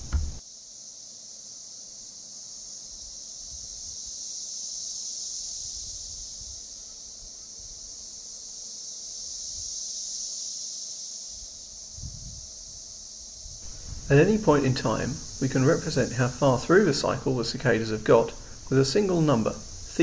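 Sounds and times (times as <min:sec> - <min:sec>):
cicadas buzzing in chorus: 0:00.0 - 0:20.0.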